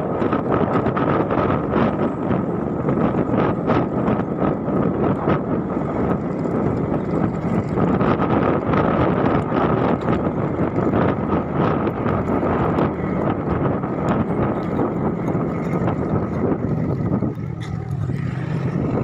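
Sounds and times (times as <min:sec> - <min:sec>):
scooter engine running: 0:00.0 - 0:19.0
wind rushing over microphone: 0:00.0 - 0:19.0.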